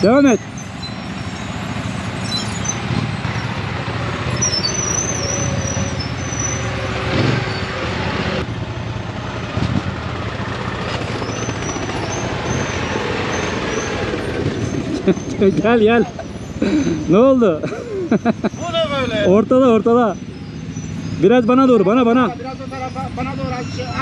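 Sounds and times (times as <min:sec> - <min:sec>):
high squeal: 0:00.0 - 0:08.0, 0:10.9 - 0:24.0
atv engines running: 0:00.0 - 0:24.0.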